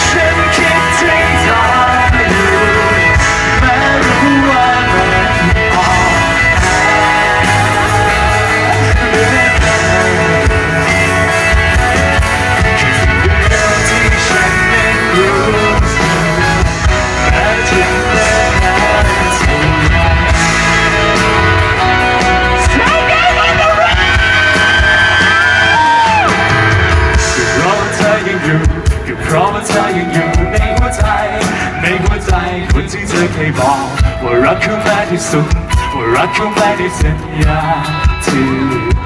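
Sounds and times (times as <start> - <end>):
rock band playing live: 0.0 - 39.0.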